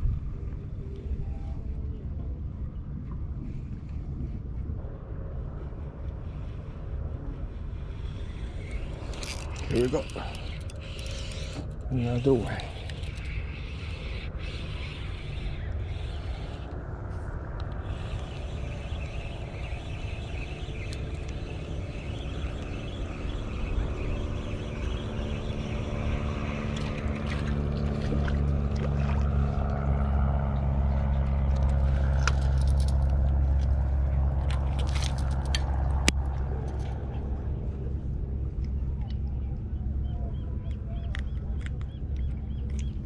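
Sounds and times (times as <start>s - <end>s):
motor engine hum: 0.0s - 43.0s.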